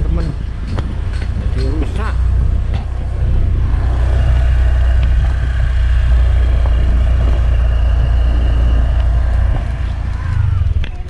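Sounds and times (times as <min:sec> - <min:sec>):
motorbike engine rumbling: 0:00.0 - 0:11.0.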